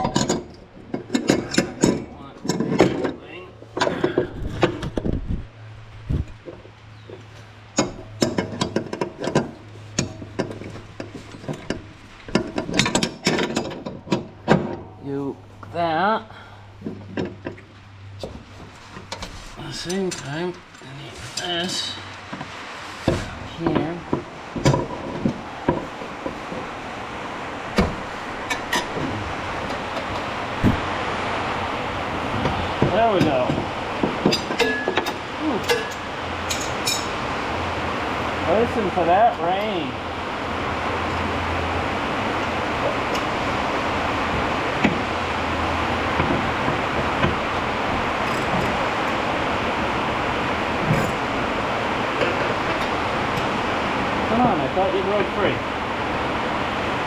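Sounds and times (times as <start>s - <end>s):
steady low hum: 0.0s - 57.0s
steady hiss: 5.9s - 57.0s.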